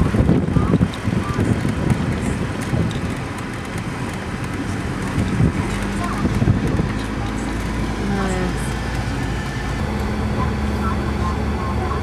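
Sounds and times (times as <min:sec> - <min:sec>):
engine hum: 0:00.0 - 0:12.0
road noise from moving car: 0:00.0 - 0:12.0
wind buffeting microphone: 0:00.0 - 0:12.0.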